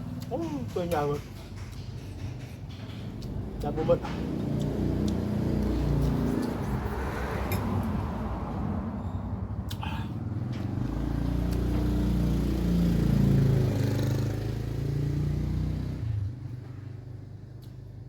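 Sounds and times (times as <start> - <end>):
vehicle engine passing by: 2.9 - 17.6.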